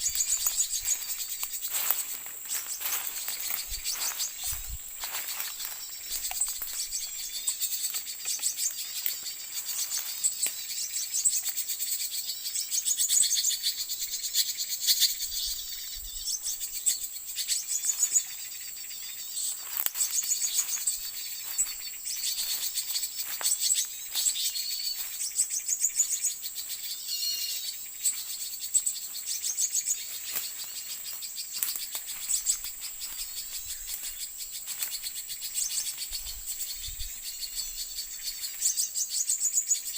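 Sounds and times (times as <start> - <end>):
insect drone: 0.0 - 39.9
songbirds chirping: 0.0 - 39.9.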